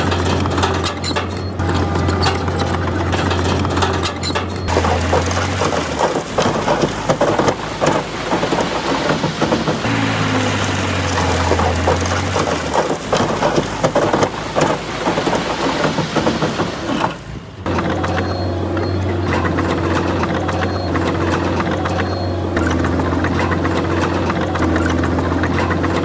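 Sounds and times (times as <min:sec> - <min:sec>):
crackling and knocking noise: 0:00.0 - 0:26.0
diesel engine running: 0:00.0 - 0:26.0.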